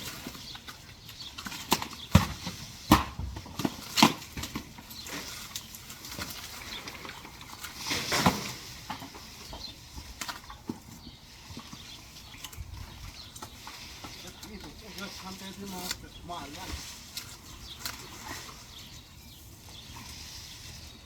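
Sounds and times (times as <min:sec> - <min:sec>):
rustling: 0:03.6 - 0:21.0.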